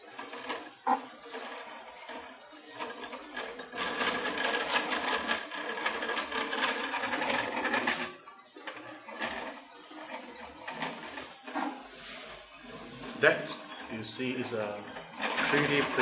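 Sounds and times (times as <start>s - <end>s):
printer parts rattling: 0.0s - 16.0s
printer stepper motors whirring: 0.0s - 16.0s.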